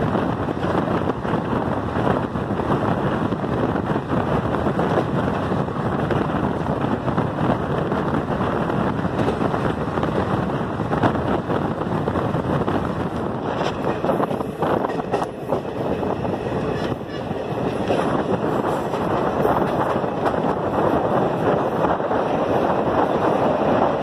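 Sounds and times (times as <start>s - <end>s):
moving train rumble: 0.0s - 24.0s
wind on microphone: 0.0s - 24.0s.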